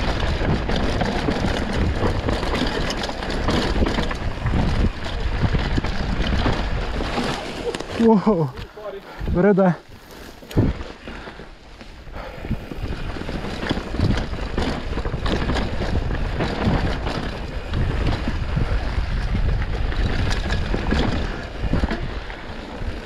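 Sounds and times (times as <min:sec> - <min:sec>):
bike knocks and rattles: 0:00.0 - 0:08.9, 0:10.0 - 0:23.0
wind buffeting microphone: 0:00.0 - 0:09.7, 0:10.4 - 0:23.0
tyres rushing on dirt: 0:00.0 - 0:23.0.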